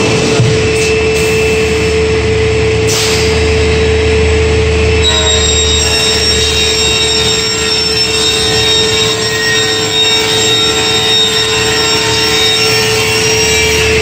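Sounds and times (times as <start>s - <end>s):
panel saw humming and whining: 0.1s - 14.0s
higher whining tones: 0.6s - 14.0s.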